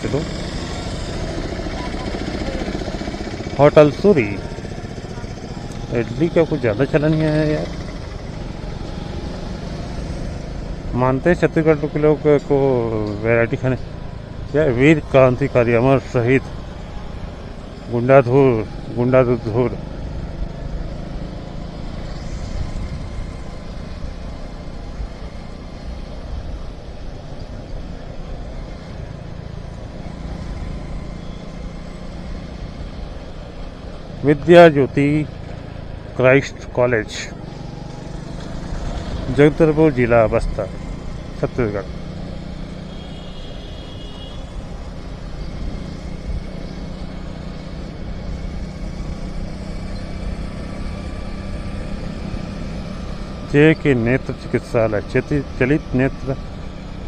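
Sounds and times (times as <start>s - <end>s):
motorcycle engine rumble: 0.0s - 57.0s
road noise: 0.0s - 57.0s.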